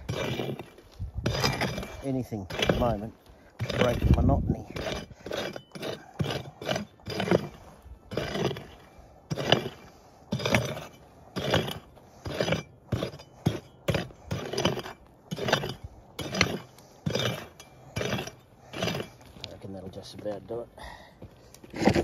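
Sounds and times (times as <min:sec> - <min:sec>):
pick striking gravel soil: 0:00.0 - 0:20.7.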